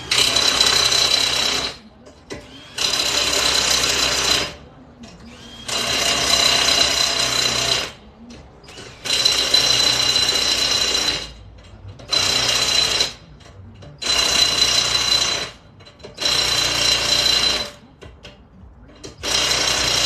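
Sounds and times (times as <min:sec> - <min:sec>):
impact wrench hammering: 0:00.0 - 0:04.6, 0:05.4 - 0:20.0.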